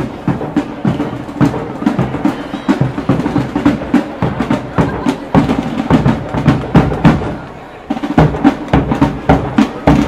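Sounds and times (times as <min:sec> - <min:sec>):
drum roll: 0:00.0 - 0:10.0.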